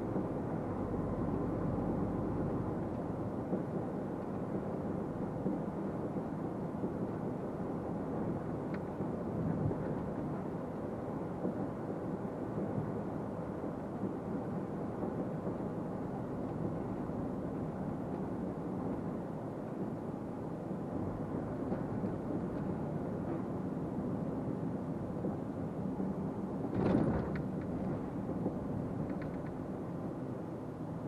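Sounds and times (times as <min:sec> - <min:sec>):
truck engine and road noise: 0:00.0 - 0:31.0.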